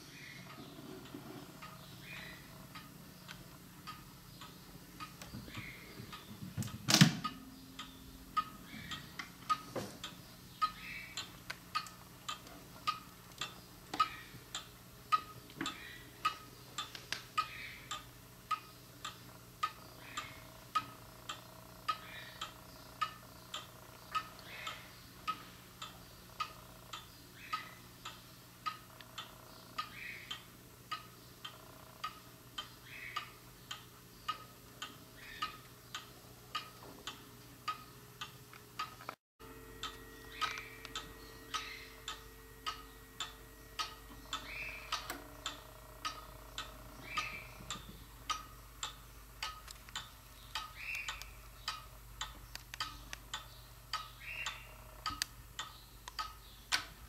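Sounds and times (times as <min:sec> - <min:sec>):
clock ticking: 0:00.0 - 0:39.0, 0:39.8 - 0:57.0.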